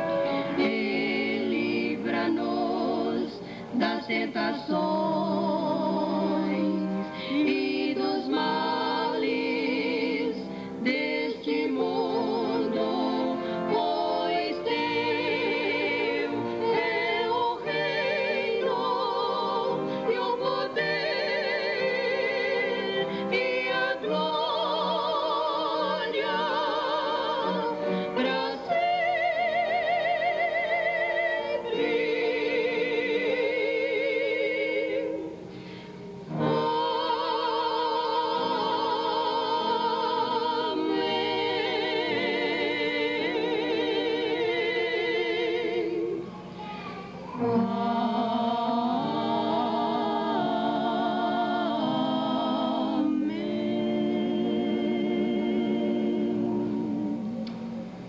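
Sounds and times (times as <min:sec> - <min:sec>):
women singing with vibrato: 0:00.0 - 0:46.6, 0:47.2 - 0:58.0.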